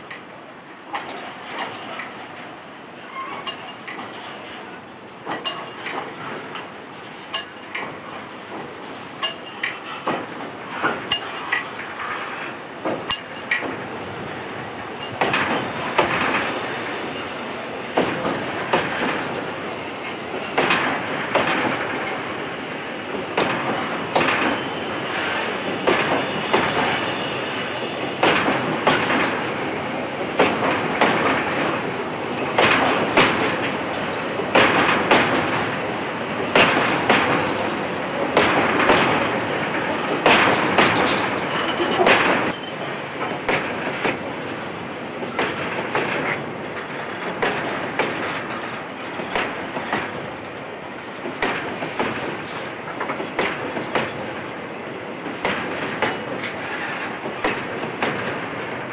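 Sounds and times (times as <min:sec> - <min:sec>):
train wagons rolling on rails: 0:00.0 - 0:58.9
wheels clacking over rail joints: 0:03.0 - 0:58.9.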